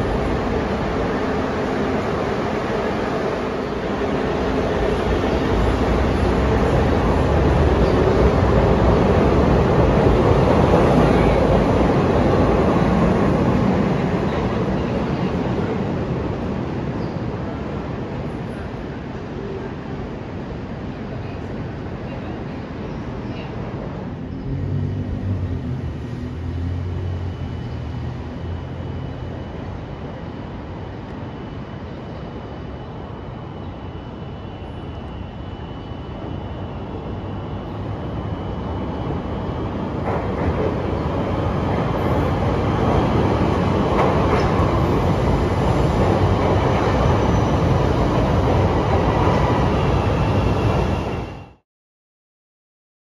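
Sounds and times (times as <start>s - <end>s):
train wheels rumbling on track: 0.0s - 31.9s, 32.6s - 51.4s.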